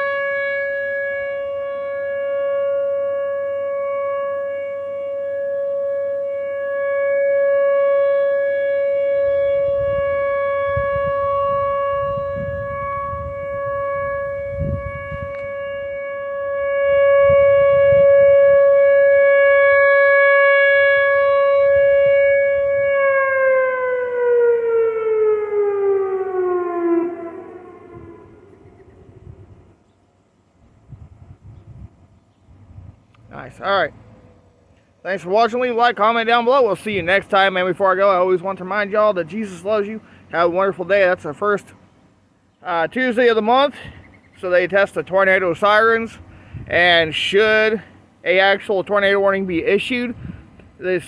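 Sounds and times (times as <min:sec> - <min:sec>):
tornado warning siren: 0:00.0 - 0:51.0.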